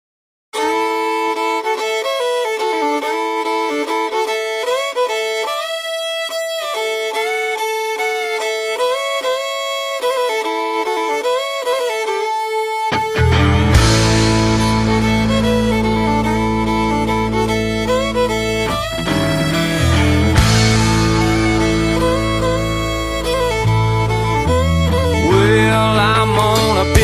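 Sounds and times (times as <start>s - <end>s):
fiddle melody: 0.6s - 27.0s.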